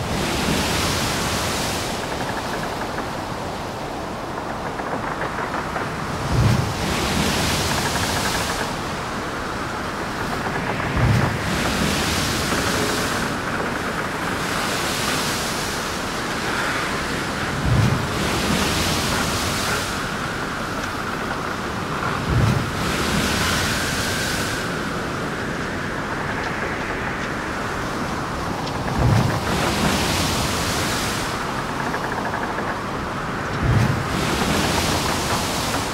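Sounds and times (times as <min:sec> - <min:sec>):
surf washing in: 0:00.0 - 0:35.9
wind: 0:00.0 - 0:35.9.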